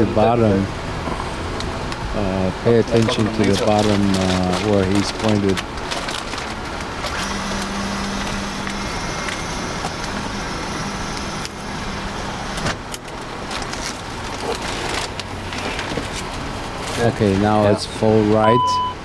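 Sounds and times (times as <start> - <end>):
aircraft running noise in cockpit: 0.0 - 18.6
steady low hum: 0.0 - 19.0.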